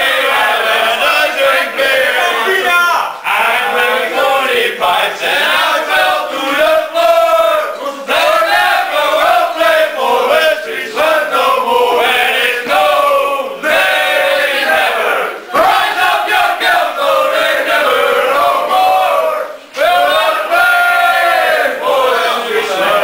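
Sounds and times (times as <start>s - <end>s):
men singing a chant: 0.0s - 23.0s.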